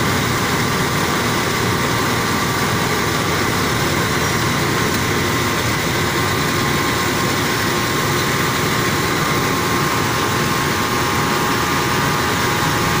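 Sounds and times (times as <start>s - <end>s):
mill machinery droning: 0.0s - 13.0s.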